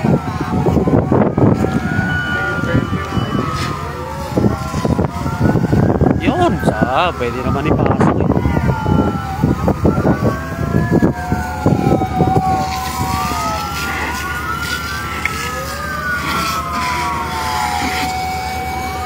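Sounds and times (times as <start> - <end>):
fire truck sirens wailing: 0.0 - 19.0
low rumbling noise: 0.0 - 19.0.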